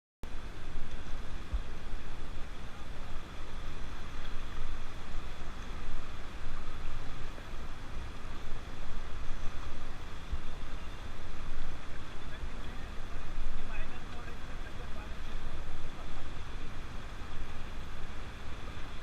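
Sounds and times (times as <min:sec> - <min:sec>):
vehicle road and engine noise: 0:00.2 - 0:19.0.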